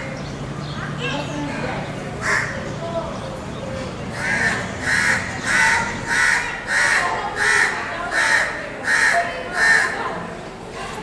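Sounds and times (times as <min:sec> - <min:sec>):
bird harsh calls: 0:00.0 - 0:10.4.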